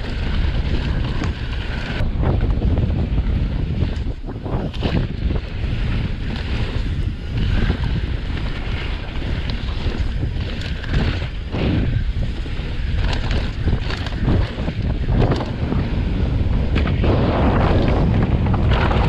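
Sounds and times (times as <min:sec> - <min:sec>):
bike tyre rumble on dirt: 0:00.0 - 0:19.0
wind buffeting microphone: 0:00.0 - 0:19.0.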